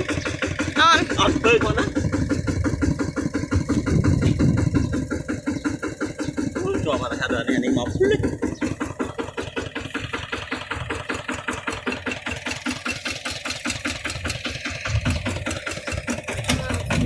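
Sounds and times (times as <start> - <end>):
hand tractor engine chugging: 0.0 - 17.0.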